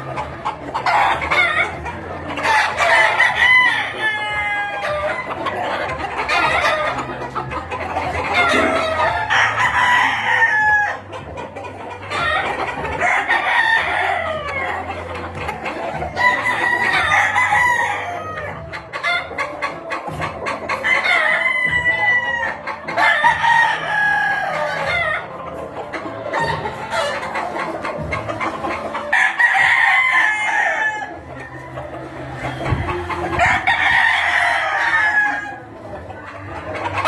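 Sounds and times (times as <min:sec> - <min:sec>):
hens clucking: 0:00.0 - 0:37.0
roosters crowing: 0:00.0 - 0:37.0.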